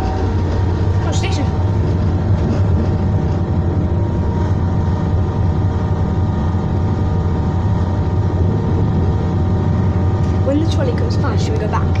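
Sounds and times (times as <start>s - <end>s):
train diesel engine drone: 0.0s - 12.0s.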